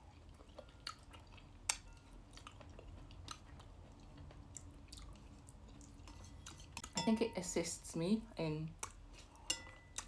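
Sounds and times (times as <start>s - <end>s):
quiet chewing of noodles: 0.0s - 7.0s, 8.8s - 10.0s.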